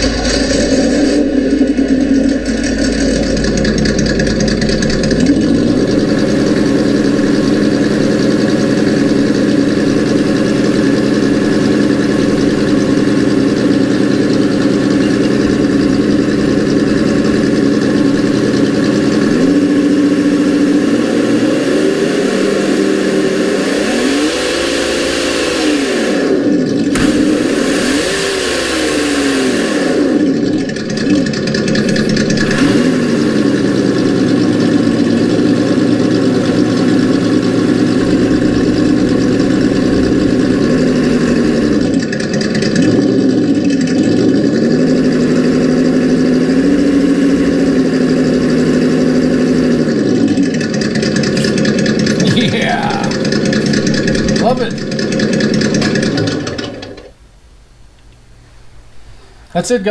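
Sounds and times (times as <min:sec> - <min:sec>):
simulated engine sound from speaker: 0:00.0 - 0:57.2.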